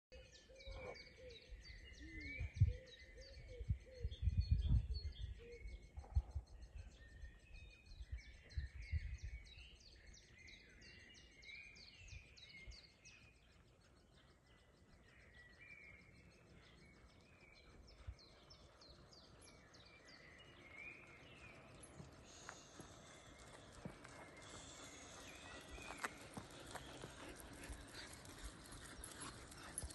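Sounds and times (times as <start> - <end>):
songbirds chirping and singing: 0.1 - 29.9.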